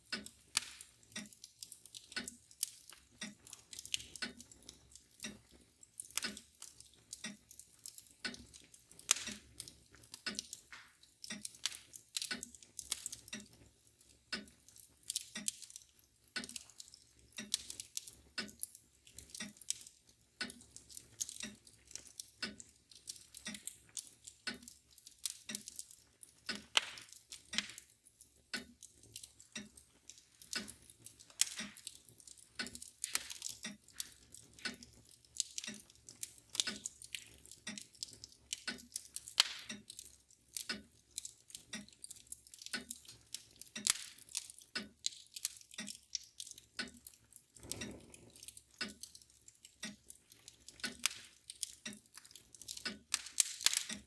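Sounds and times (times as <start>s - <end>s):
clock ticking: 0.0s - 54.0s
wood fire crackling: 0.0s - 54.0s.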